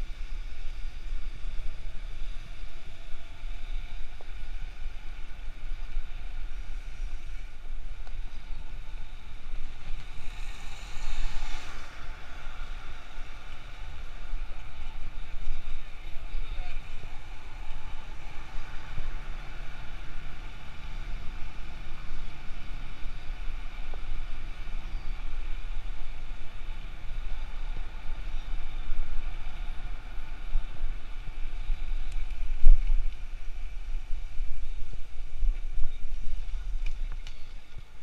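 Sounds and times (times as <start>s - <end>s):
road and traffic noise: 0.0s - 38.0s
wind buffeting microphone: 0.0s - 38.0s.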